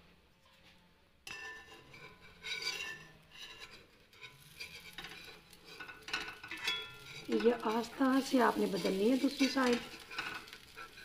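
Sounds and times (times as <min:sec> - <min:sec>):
spatula scraping non-stick pan: 0:01.3 - 0:11.0.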